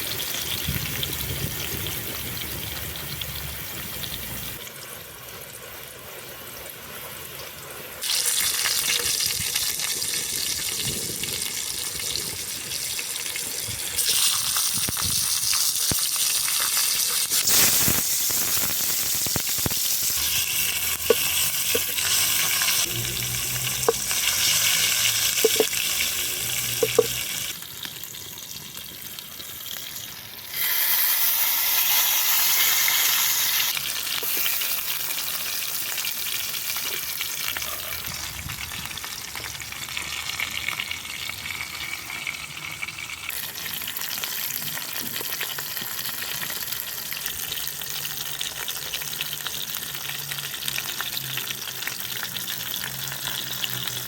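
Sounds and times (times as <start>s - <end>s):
food sizzling in hot fat: 0.0s - 54.0s.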